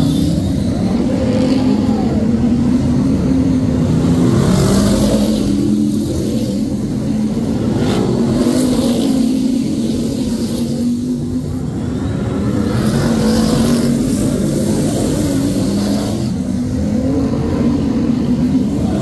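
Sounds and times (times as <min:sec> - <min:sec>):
racing car engines: 0:00.0 - 0:19.0.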